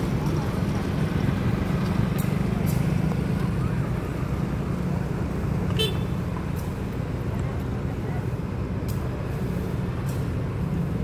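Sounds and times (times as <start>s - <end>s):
locomotive engine low drone: 0.0s - 11.0s.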